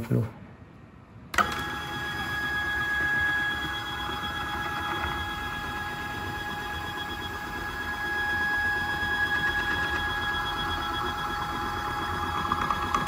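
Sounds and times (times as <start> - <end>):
stepper motor whine: 1.4 - 13.0.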